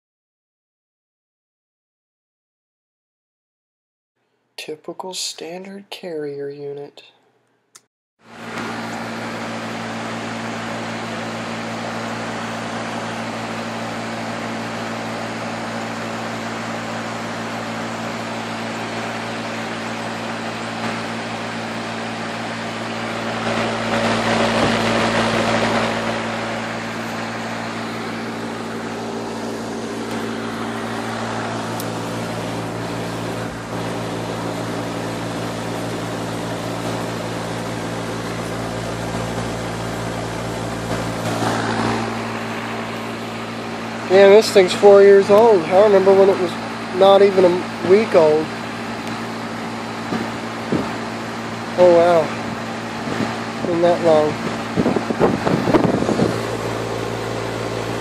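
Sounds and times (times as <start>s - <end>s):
compressor hum: 7.8s - 58.0s
condenser fan rushing: 8.2s - 58.0s.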